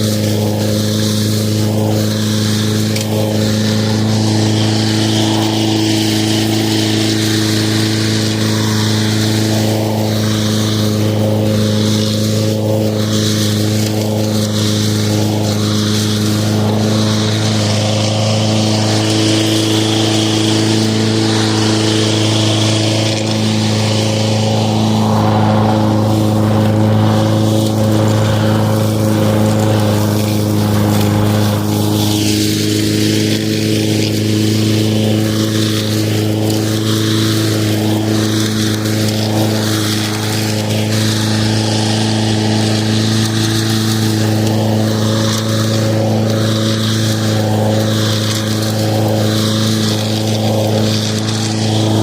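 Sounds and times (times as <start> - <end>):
lawn mower running: 0.0 - 52.0.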